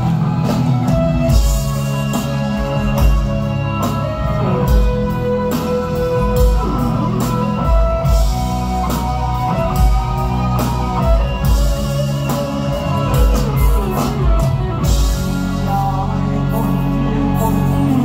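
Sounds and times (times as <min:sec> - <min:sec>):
electric guitar bending notes: 0:00.0 - 0:18.0
steady drums: 0:00.0 - 0:18.0.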